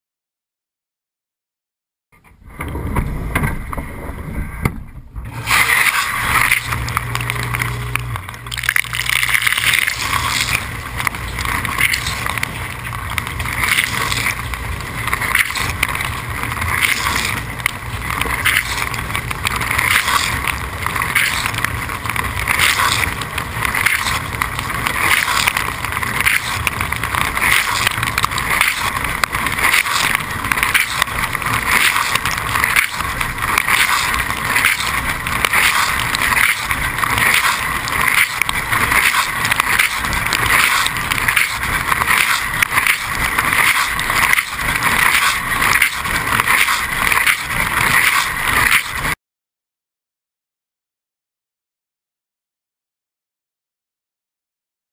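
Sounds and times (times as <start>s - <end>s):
low hum: 2.2s - 49.2s.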